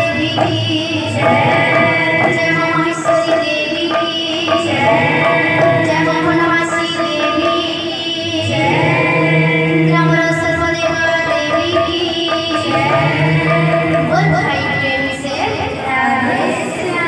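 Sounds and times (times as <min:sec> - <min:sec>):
barrel drum: 0:00.0 - 0:16.9
held drone notes: 0:00.0 - 0:17.0
woman singing through microphone: 0:00.0 - 0:17.0.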